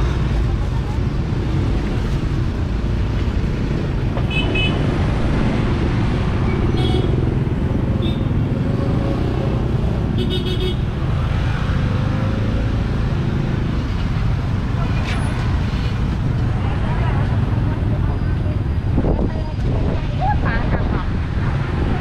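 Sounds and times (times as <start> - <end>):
traffic engines rumbling: 0.0 - 22.0.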